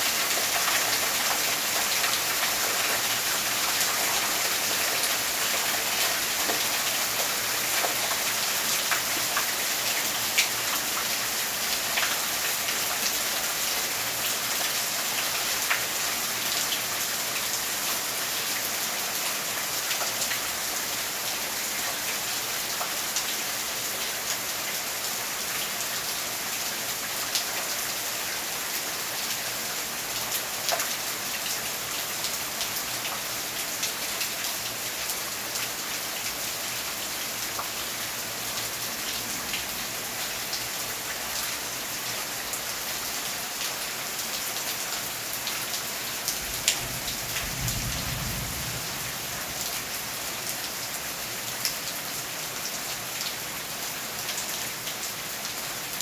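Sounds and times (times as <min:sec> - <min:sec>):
heavy rain on foliage and concrete: 0:00.0 - 0:56.0.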